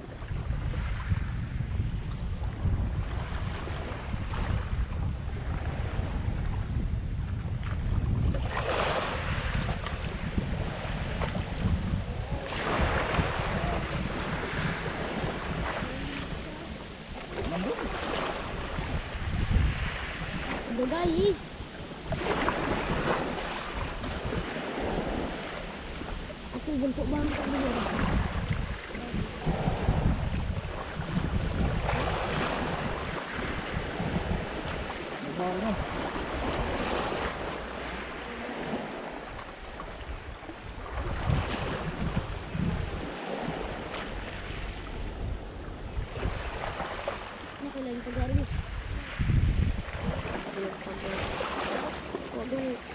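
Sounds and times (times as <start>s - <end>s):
wind noise on microphone: 0.0s - 52.9s
waves washing against rocks: 8.4s - 52.9s.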